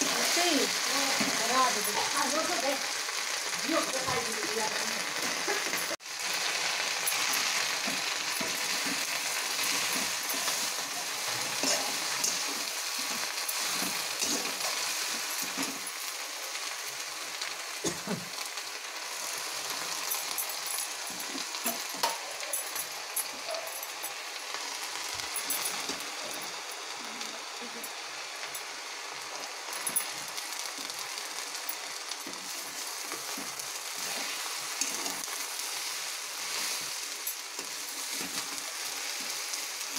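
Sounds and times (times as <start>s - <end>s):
leaves sizzling in hot oil: 0.0s - 39.9s.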